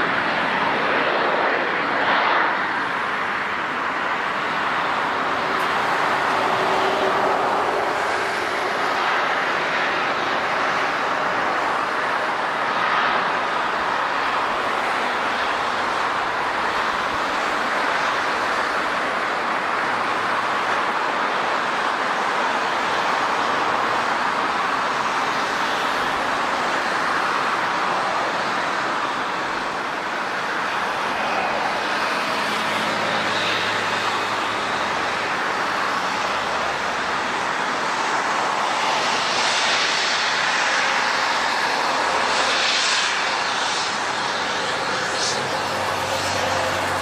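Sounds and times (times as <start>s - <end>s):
airliner engines rushing: 0.0s - 47.0s.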